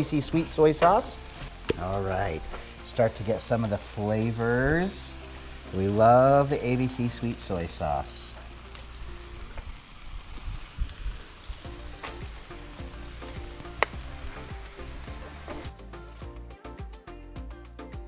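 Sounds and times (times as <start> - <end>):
food sizzling on a griddle: 0.0 - 16.3
music: 0.0 - 18.0.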